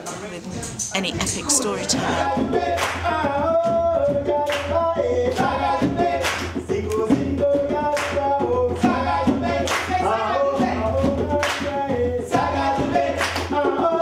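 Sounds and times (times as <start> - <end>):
group singing: 1.0 - 14.0.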